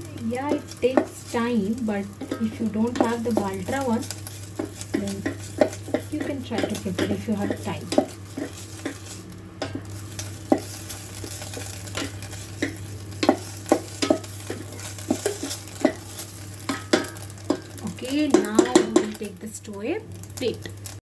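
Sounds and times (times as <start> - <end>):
utensil scraping a pot: 0.0 - 19.3
eggs sizzling: 0.0 - 21.0
steady low hum: 0.0 - 21.0.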